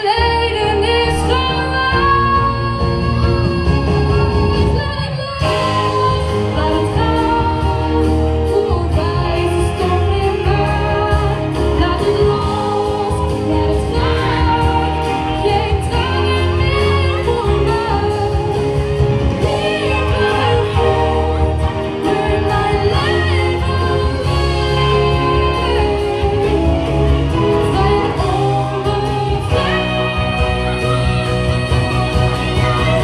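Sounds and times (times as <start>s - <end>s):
amplified music with heavy bass: 0.0s - 33.0s
woman singing into microphone: 0.0s - 33.0s.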